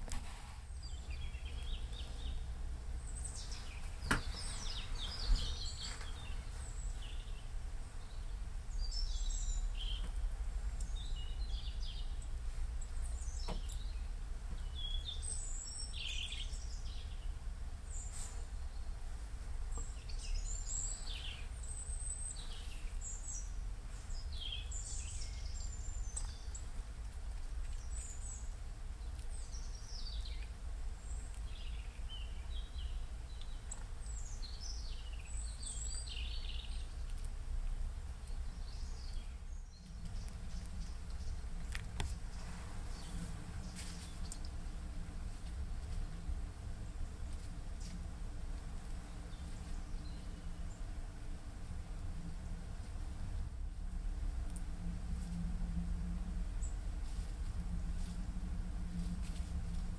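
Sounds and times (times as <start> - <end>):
small birds chirping: 0.0 - 53.7
low background rumble: 0.0 - 59.9.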